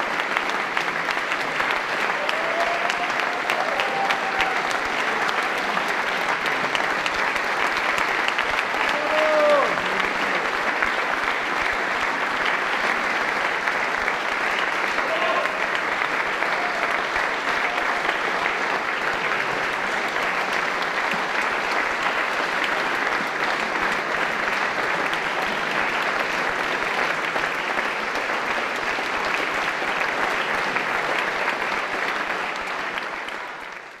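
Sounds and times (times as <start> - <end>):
audience applause: 0.0 - 34.0.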